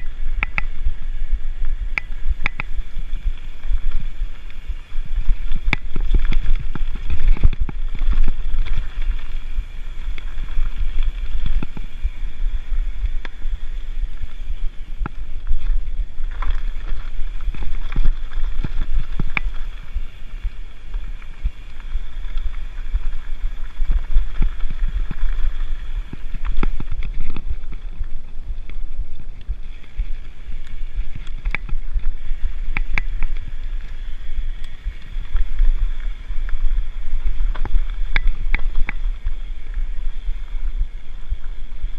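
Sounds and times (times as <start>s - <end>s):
bike clicks and rattles: 0.0s - 41.9s
wind buffeting microphone: 0.0s - 41.9s.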